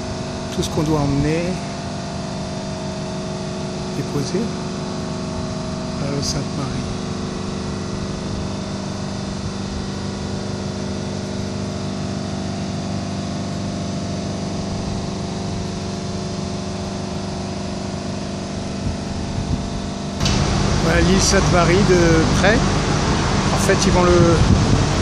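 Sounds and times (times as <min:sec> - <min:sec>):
machinery droning: 0:00.0 - 0:25.0.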